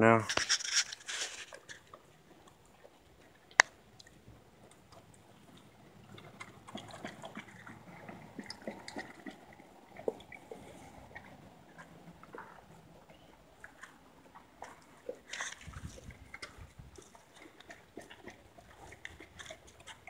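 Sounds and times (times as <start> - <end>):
dog slurping and chewing: 0.4 - 20.0.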